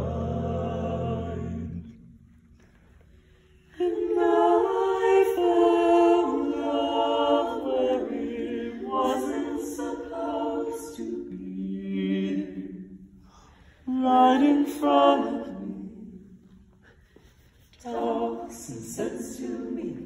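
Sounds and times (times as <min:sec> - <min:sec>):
a cappella group singing harmony: 0:00.0 - 0:02.2, 0:03.7 - 0:20.0.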